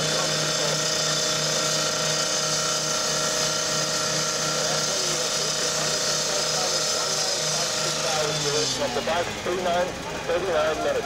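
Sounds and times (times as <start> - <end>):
power saw cutting steel: 0.0 - 11.0.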